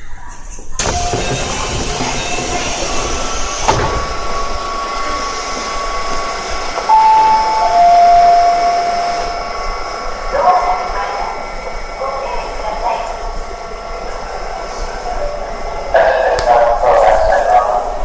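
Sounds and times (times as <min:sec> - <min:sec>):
running train rumble: 0:00.0 - 0:18.0
train motors whining: 0:00.6 - 0:16.6.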